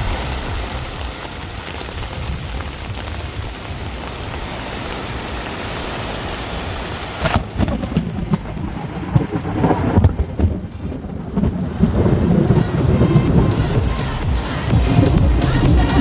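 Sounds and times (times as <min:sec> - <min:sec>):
heavy rain: 0:00.0 - 0:16.0
low rumble of thunder: 0:00.0 - 0:16.0.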